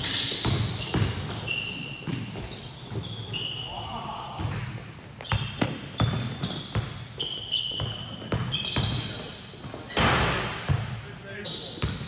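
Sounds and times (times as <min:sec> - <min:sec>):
basketball bouncing on court: 0:00.0 - 0:03.4, 0:04.3 - 0:11.0, 0:11.7 - 0:12.0
sneaker squeaks: 0:00.0 - 0:12.0.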